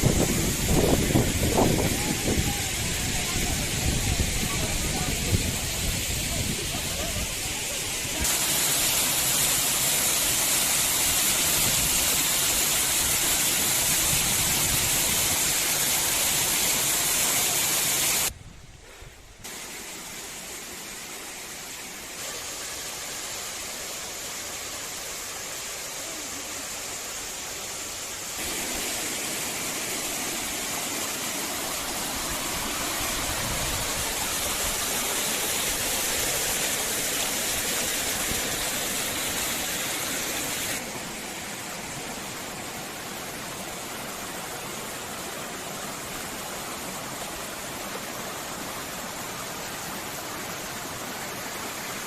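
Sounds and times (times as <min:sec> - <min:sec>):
waterfall rushing: 0:00.0 - 0:18.3, 0:19.5 - 0:52.0.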